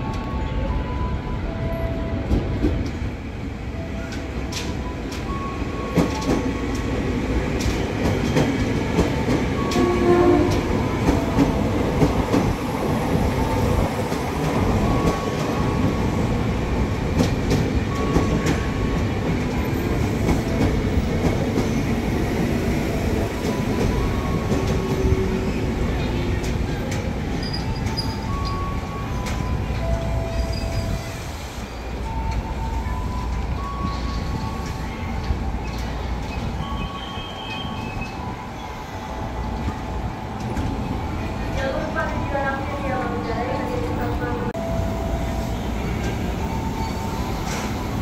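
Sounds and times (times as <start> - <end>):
train running gear rumble: 3.8 - 48.0.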